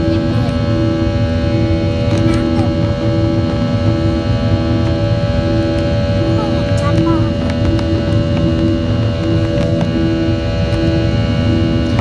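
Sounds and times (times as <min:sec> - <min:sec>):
jet engine drone in cabin: 0:00.0 - 0:12.0
pulsing hum tone: 0:00.0 - 0:12.0.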